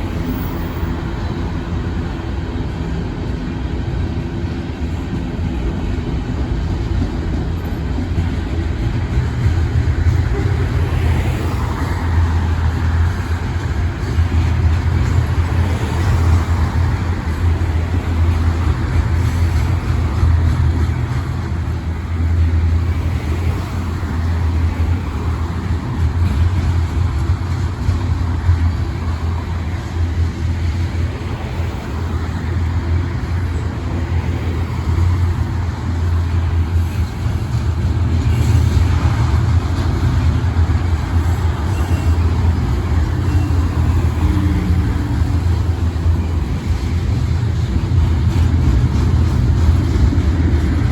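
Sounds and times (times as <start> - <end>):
freight train rumbling past: 0.0 - 50.9.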